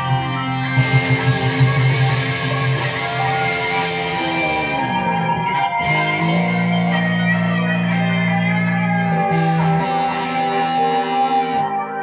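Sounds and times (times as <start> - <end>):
electric guitar sustained chords: 0.0 - 12.0.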